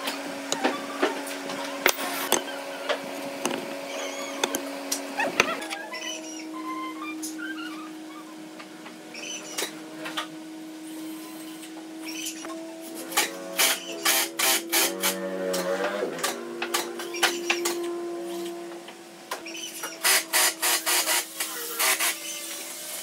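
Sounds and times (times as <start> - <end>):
steady hum: 0.0 - 21.5.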